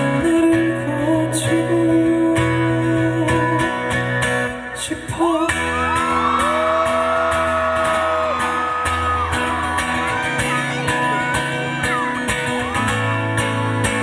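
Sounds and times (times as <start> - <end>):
live pop-rock band playing: 0.0 - 14.0.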